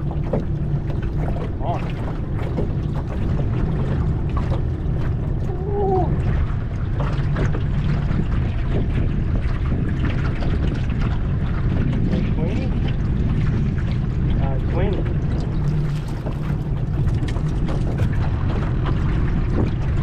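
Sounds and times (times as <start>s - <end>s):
water lapping around boat: 0.0s - 20.0s
wind: 0.0s - 20.0s.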